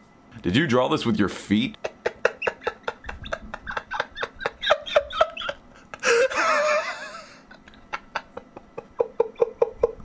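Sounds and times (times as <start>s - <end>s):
person laughing hard: 1.8s - 10.0s.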